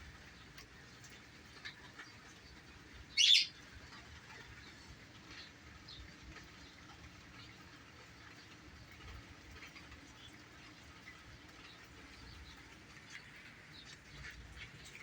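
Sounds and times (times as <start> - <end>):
faint rain pattering: 0.0 - 15.0.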